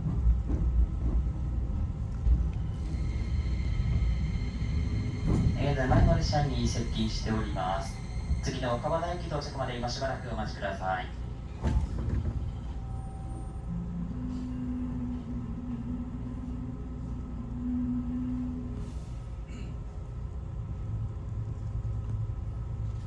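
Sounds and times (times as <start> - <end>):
train cabin low rumble: 0.0 - 23.0.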